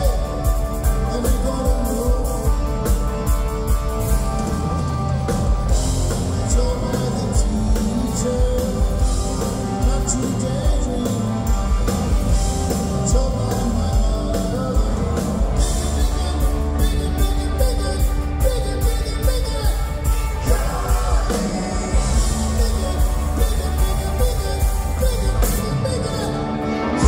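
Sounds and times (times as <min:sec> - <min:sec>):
drum kit steady beat: 0:00.0 - 0:27.0
live rock band playing: 0:00.0 - 0:27.0.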